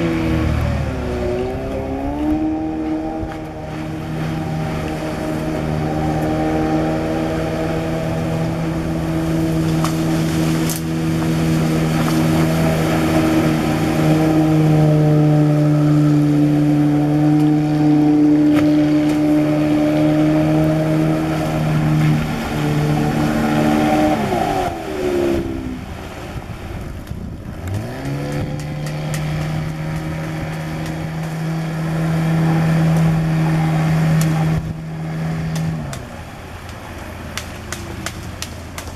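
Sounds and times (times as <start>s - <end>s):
motorboat engine running hard: 0.0s - 38.9s.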